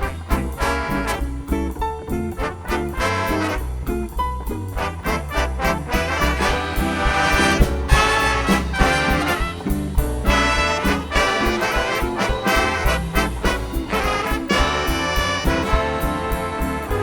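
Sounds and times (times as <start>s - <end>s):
big band swing jazz: 0.0s - 17.0s.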